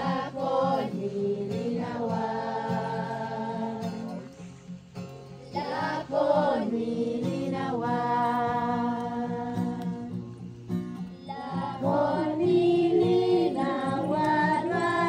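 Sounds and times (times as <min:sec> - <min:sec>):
sung melody with accompaniment: 0:00.0 - 0:15.0.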